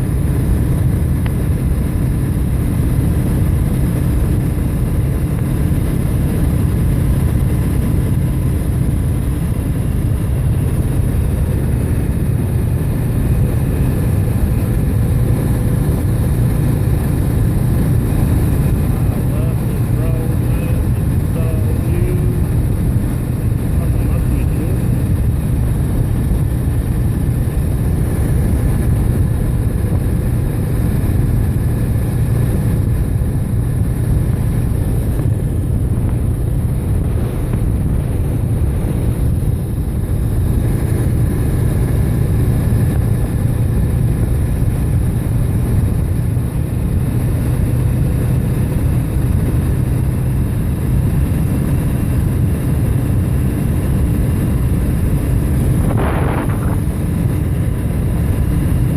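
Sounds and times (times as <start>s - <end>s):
motorcycle engine drone: 0.0s - 58.9s
wind rush on microphone: 0.0s - 58.9s.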